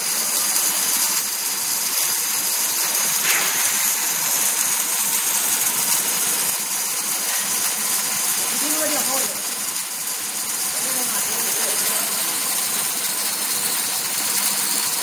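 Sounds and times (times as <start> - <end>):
welding arcs crackling hiss: 0.0 - 15.0.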